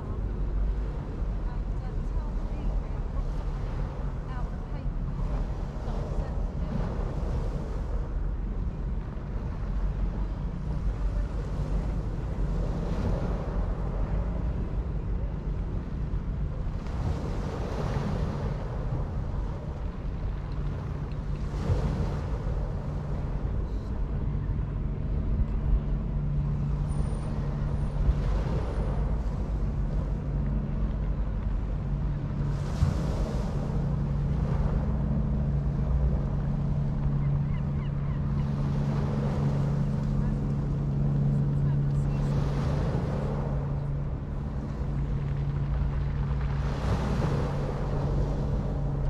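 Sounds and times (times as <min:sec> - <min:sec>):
low drone: 0:00.0 - 0:49.0
sea waves breaking on shore: 0:00.0 - 0:49.0.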